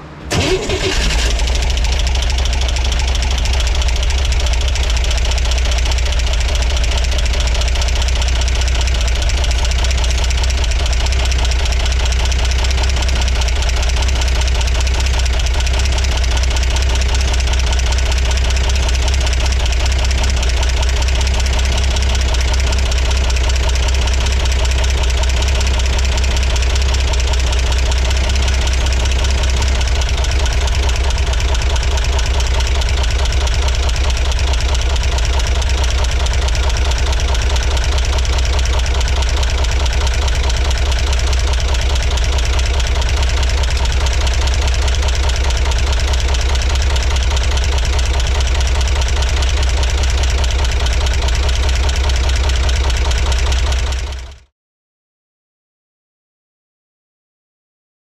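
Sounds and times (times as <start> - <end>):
car engine idling: 0.0 - 54.4
repeating rotational engine knock: 0.0 - 54.4.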